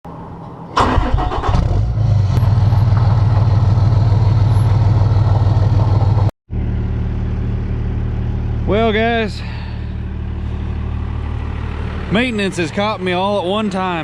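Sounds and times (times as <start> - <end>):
diesel engine starting and idling: 0.7 - 14.0.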